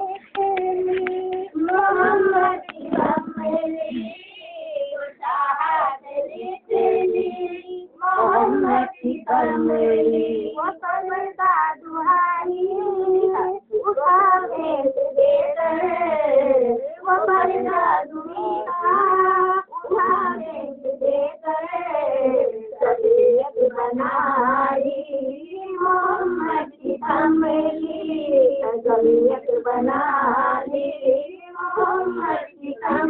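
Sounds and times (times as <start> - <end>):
person singing devotional song: 0.0 - 33.0.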